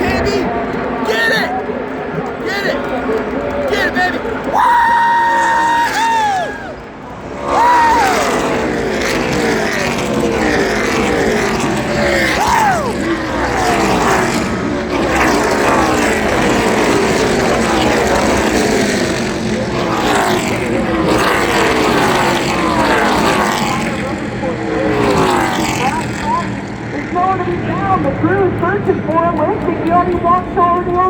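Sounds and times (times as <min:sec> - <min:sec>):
race trucks passing by: 0:00.0 - 0:31.0.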